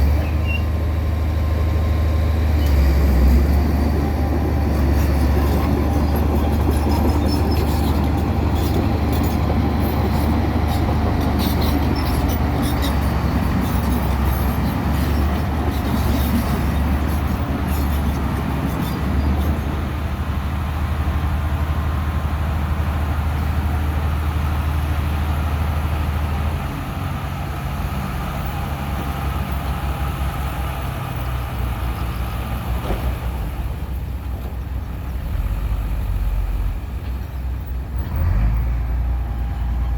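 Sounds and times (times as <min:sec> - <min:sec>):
heavy vehicle engine drone: 0:00.0 - 0:39.9.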